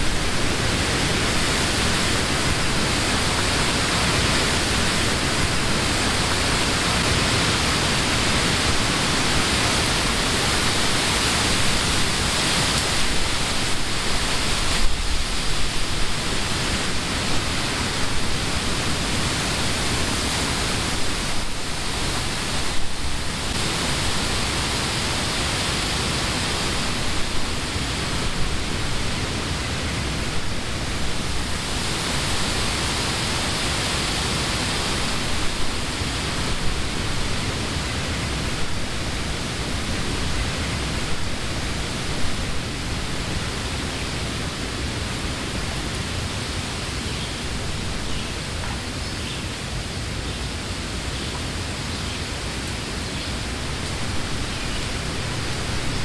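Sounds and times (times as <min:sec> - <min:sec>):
wind blowing through leaves: 0:00.0 - 0:56.0.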